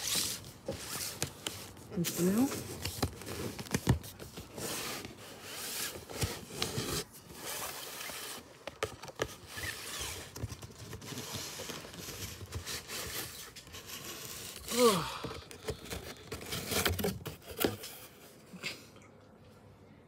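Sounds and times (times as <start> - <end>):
cardboard rubbing and scraping: 0.0 - 18.3.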